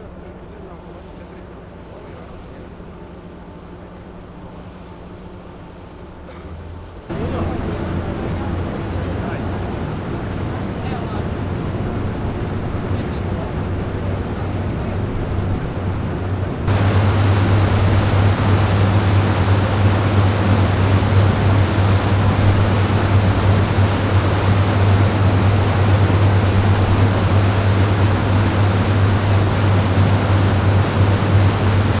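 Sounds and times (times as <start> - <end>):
boat engines droning: 0.0 - 32.0
propeller wake rushing hiss: 0.6 - 32.0.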